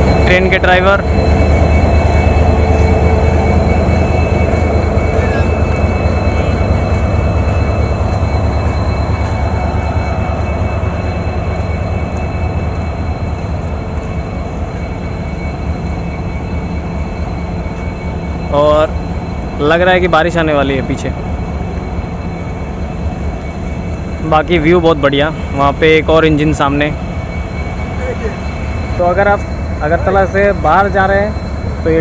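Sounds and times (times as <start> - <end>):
diesel locomotive engine idling: 0.0 - 32.0
high engine whine: 0.0 - 32.0.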